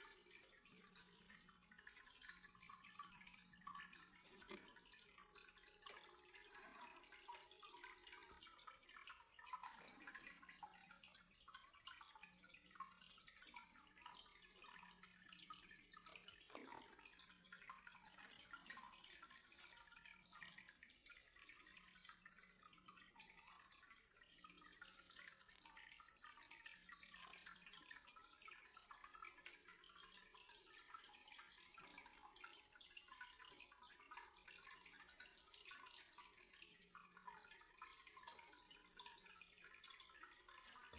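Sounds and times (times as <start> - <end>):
water trickling and dripping: 0.0 - 40.9.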